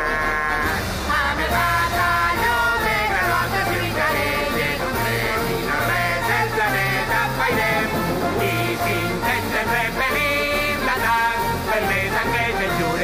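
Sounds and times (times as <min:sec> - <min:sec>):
band backing music: 0:00.0 - 0:13.0
person singing: 0:00.0 - 0:13.0.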